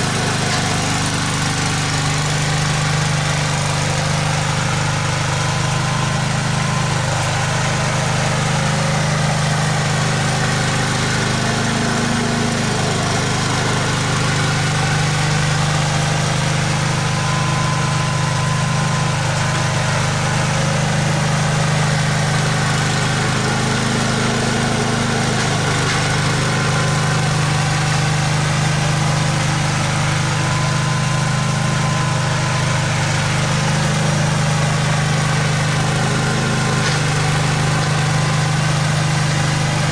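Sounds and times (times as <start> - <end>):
snow removal machine engine: 0.0 - 39.9.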